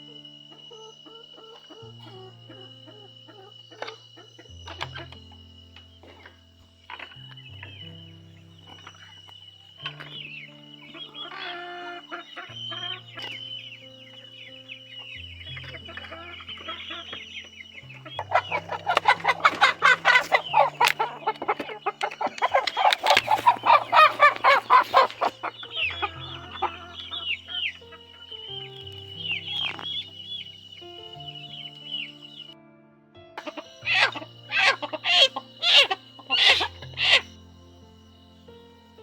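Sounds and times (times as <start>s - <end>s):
chickens clucking and squawking: 0.0s - 32.6s, 33.4s - 37.8s.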